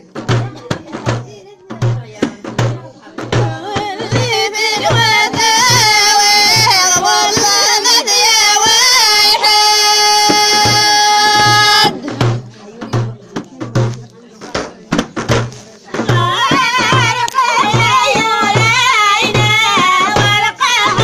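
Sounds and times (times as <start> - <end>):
low drum beating: 0.0 - 21.0.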